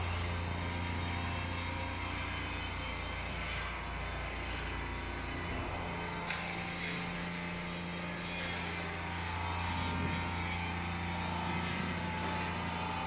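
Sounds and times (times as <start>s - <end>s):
concrete mixer motor humming: 0.0s - 13.0s.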